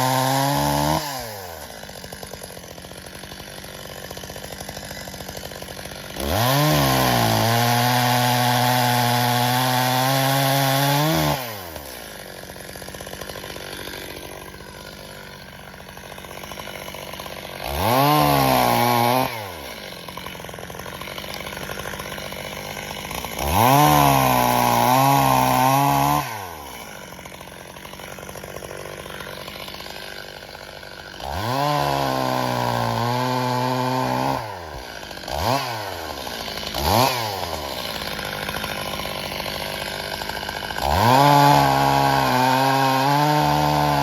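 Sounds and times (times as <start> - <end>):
chainsaw revving and idling: 0.0 - 44.0.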